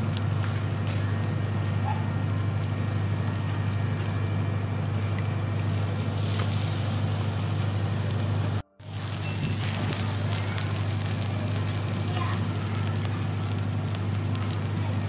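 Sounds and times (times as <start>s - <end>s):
charcoal embers crackling: 0.0s - 15.0s
low mechanical hum: 0.0s - 15.0s.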